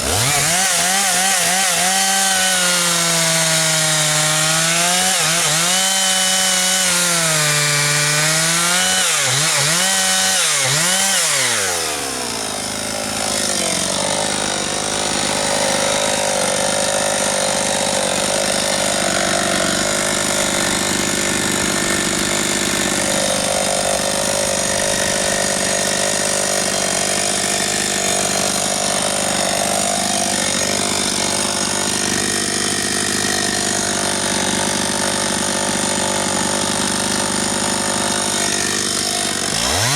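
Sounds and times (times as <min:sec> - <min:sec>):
chain rasping through wood: 0:00.0 - 0:39.9
chainsaw revving: 0:00.0 - 0:39.9.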